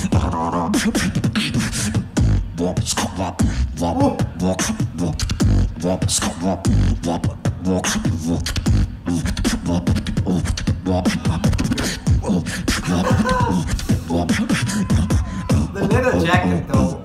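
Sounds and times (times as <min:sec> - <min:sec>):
beatboxing through a microphone: 0:00.0 - 0:17.0.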